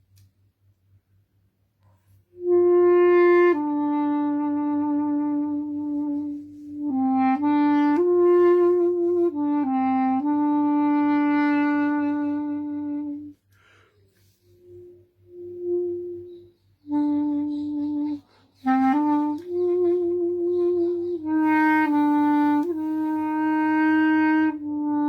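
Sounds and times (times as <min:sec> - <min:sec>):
wind instrument slow melody: 0:02.1 - 0:25.0.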